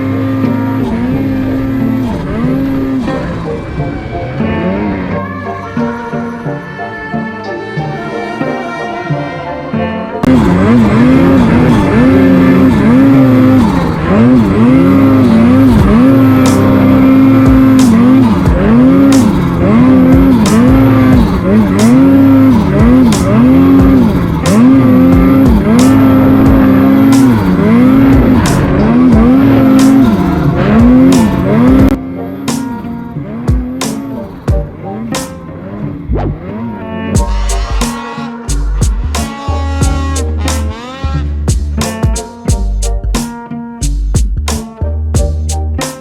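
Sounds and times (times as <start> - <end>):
background music with bending melody: 0.0 - 46.0.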